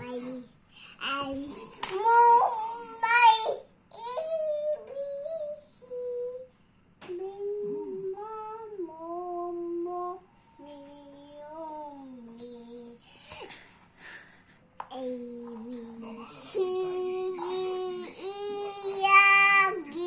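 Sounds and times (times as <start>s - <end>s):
child singing wordless tune: 0.0s - 13.2s, 14.9s - 20.0s.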